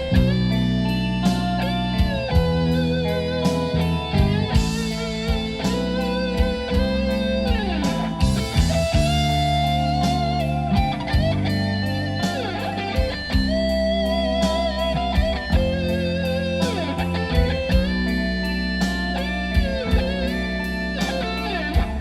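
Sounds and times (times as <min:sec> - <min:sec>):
drum beat: 0:00.0 - 0:00.6, 0:01.4 - 0:22.0
bass: 0:00.0 - 0:22.0
electric guitar lead: 0:00.0 - 0:22.0.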